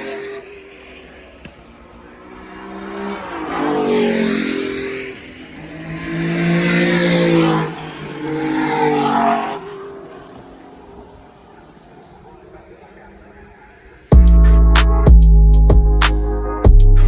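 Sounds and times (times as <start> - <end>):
race cars passing at speed: 0.0 - 14.1.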